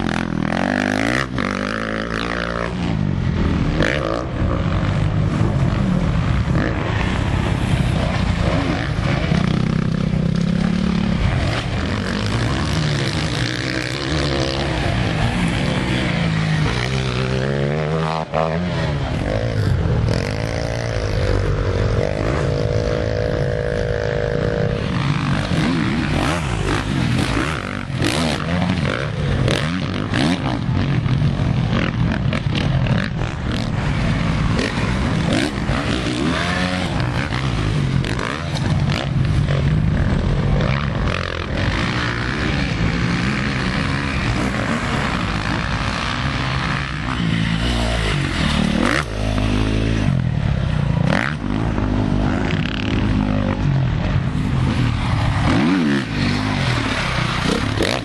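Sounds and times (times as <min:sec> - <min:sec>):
off-road engines revving: 0:00.0 - 0:58.0.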